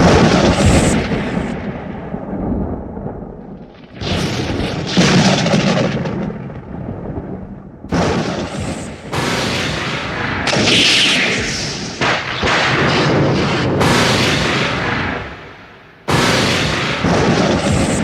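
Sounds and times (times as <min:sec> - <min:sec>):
crackling lightning strikes: 0:00.0 - 0:18.0
thunder rumbling: 0:00.0 - 0:18.0.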